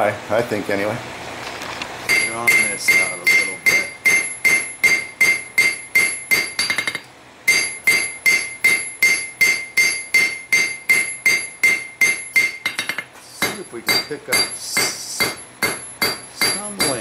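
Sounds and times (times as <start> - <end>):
hammer ringing on anvil: 2.1 - 17.0.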